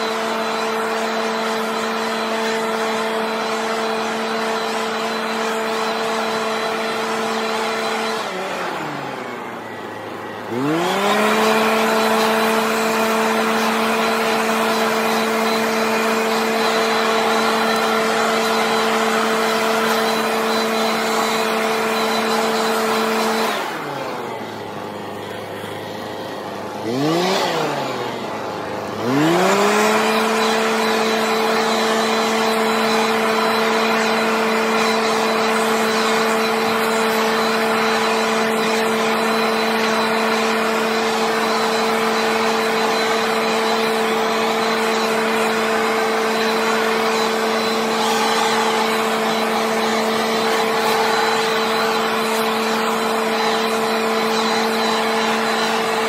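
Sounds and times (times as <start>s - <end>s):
leaf blower engine revving: 0.0s - 56.0s.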